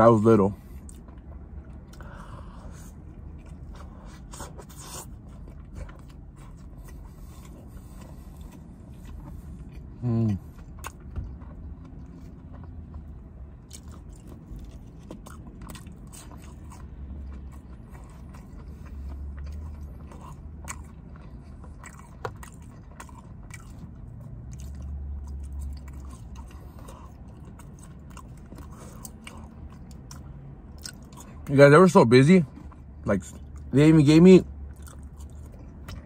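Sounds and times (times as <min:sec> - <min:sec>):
chewing and lip-smacking: 0:00.1 - 0:36.0.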